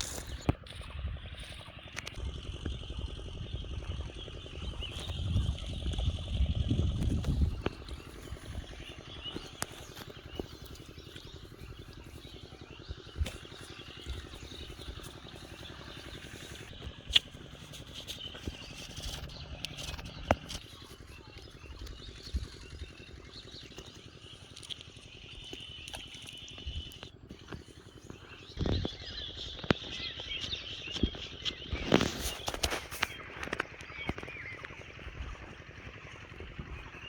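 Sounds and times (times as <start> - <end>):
high chirping of birds or insects: 0.0 - 37.0.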